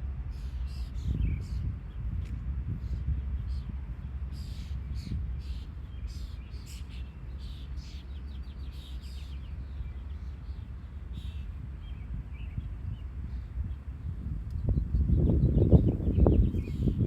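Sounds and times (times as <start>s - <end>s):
steady low rumble: 0.0s - 17.0s
small birds chirping: 0.3s - 17.0s.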